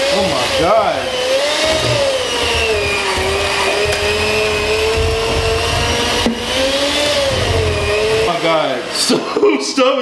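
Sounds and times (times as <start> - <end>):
electric hand mixer whine: 0.0 - 10.0.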